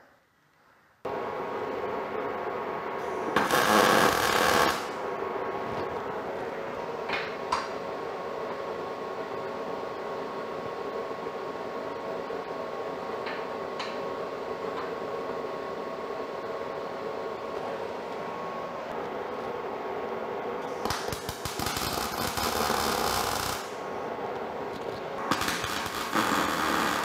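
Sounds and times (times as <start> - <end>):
workshop equipment humming: 1.0 - 27.0.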